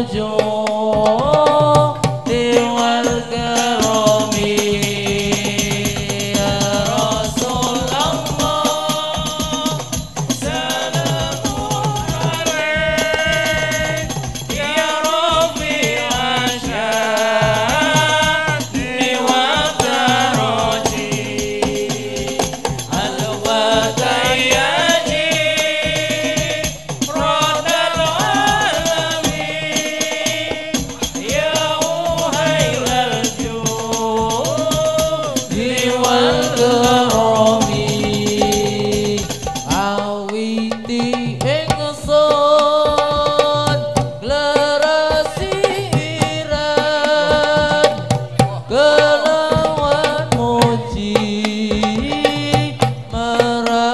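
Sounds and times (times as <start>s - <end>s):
frame drums beating: 0.0s - 53.9s
voices singing in unison: 0.0s - 53.9s.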